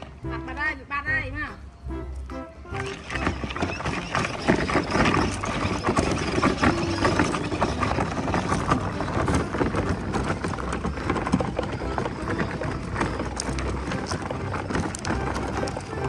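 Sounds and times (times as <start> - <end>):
footsteps on gravel: 2.1 - 16.0
plastic wheels rattling over gravel: 2.7 - 16.0.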